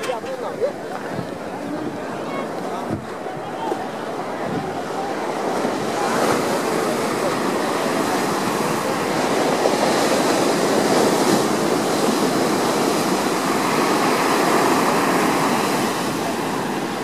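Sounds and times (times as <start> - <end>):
ocean surf breaking on shore: 0.0 - 17.0.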